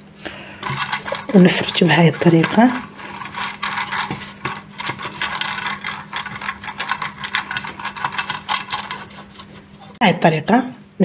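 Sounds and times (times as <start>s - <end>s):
pastry brush scratching metal pan: 0.6s - 10.0s.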